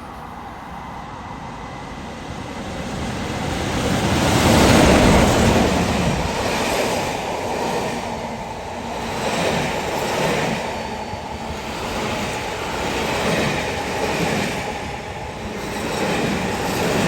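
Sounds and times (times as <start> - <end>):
train passing by: 0.0 - 17.0.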